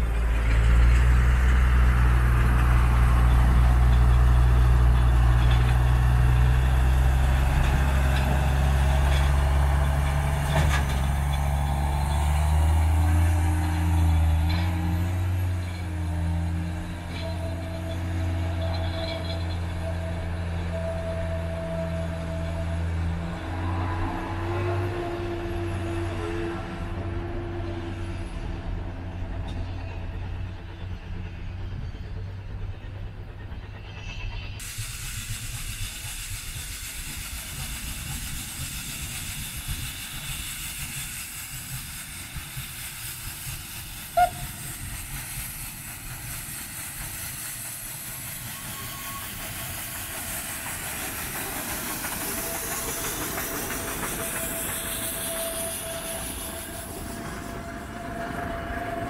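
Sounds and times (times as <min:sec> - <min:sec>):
steam hissing: 0:00.0 - 0:24.9, 0:32.6 - 0:59.0.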